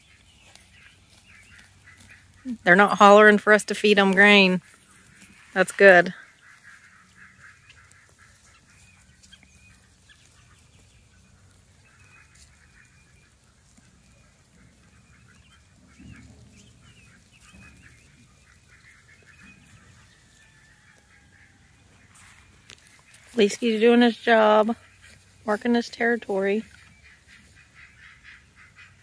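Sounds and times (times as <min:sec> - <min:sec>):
distant poultry calls: 0:00.0 - 0:29.0.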